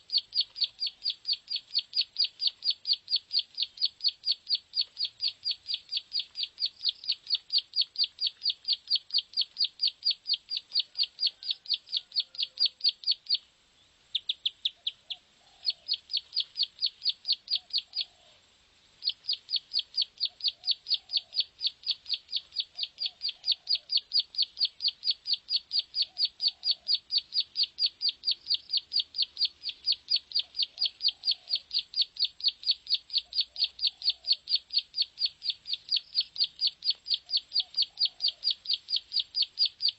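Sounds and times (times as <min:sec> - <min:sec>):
faint lower bird calls: 0:00.0 - 0:18.4, 0:19.0 - 0:39.9.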